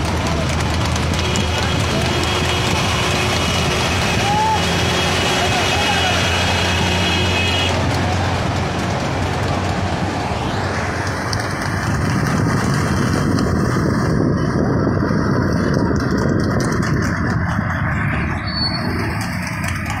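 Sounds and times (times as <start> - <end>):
tyres on tarmac: 0.0 - 20.0
vehicle engine: 0.0 - 20.0.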